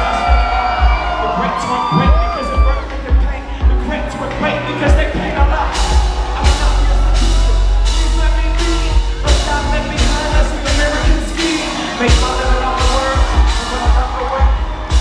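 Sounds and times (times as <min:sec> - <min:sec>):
hip-hop music over loud pa: 0:00.0 - 0:15.0
person singing: 0:00.0 - 0:15.0
steady drum beat: 0:00.0 - 0:15.0.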